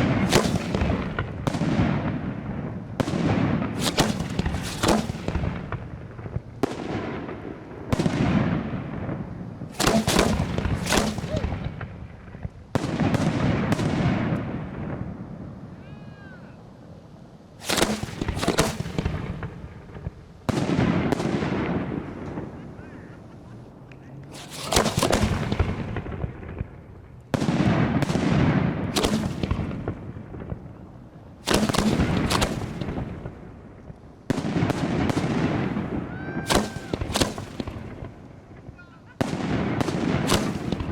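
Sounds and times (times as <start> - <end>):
fireworks bursting: 0.0 - 15.8, 17.4 - 40.9.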